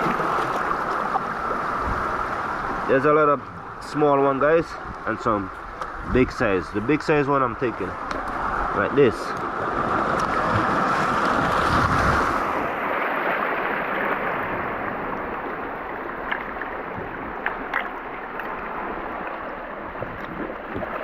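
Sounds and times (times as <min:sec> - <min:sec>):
sea water surging and sloshing: 0:00.0 - 0:21.0.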